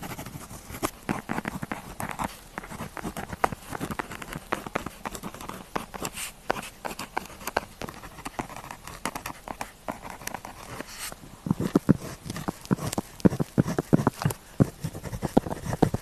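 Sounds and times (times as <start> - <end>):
pen scratching on paper: 0.0 - 16.0.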